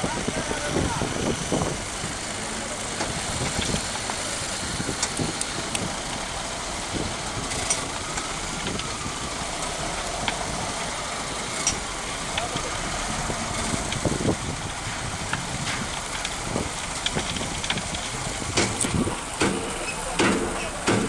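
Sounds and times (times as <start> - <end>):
wheel loader diesel engine: 0.0 - 21.0.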